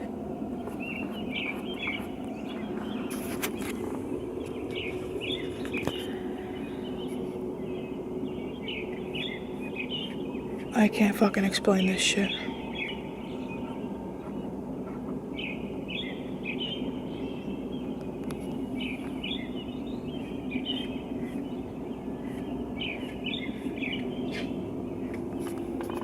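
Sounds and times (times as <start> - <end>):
songbirds chirping: 0.0 - 26.0
steady low background rumble: 0.0 - 26.0.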